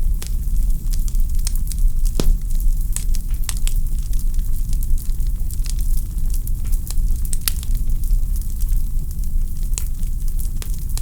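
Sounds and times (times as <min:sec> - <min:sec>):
wood fire burning: 0:00.0 - 0:11.0.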